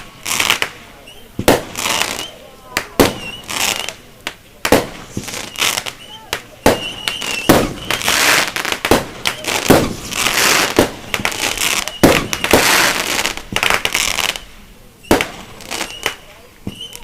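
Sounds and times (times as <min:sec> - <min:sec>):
crackling hiss of sparks: 0:00.0 - 0:17.0
firework shells bursting: 0:00.0 - 0:17.0.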